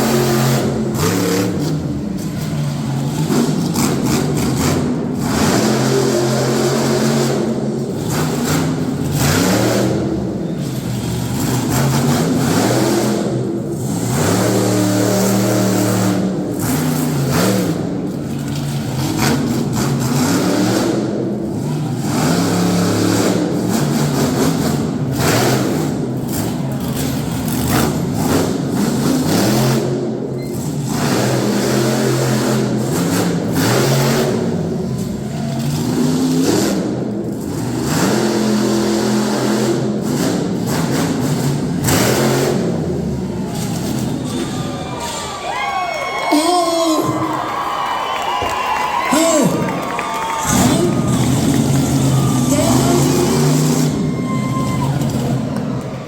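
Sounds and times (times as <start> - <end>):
truck engine revving: 0.0 - 45.4, 46.6 - 56.0.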